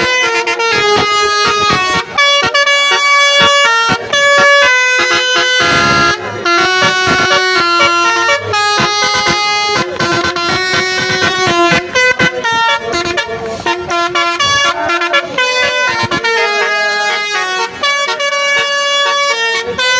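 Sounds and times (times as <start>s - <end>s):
multi-tone bus horn tune: 0.0s - 19.9s.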